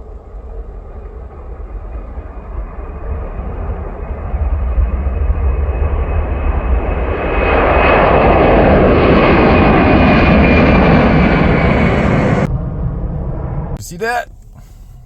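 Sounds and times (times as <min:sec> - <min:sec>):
jet engines roaring: 0:00.0 - 0:14.7
high whine of jet engines: 0:00.0 - 0:15.0.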